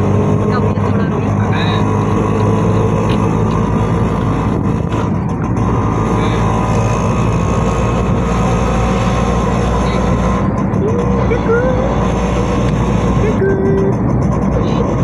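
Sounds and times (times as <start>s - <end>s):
auto-rickshaw engine running: 0.0s - 15.0s
road noise: 0.0s - 15.0s.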